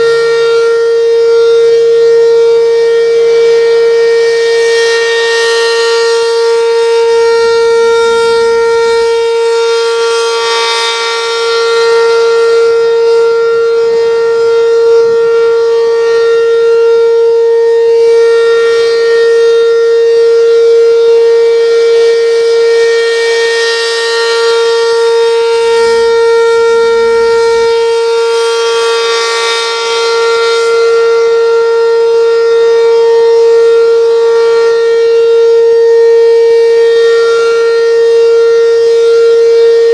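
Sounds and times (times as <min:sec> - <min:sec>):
siren steady wail: 0:00.0 - 0:39.9.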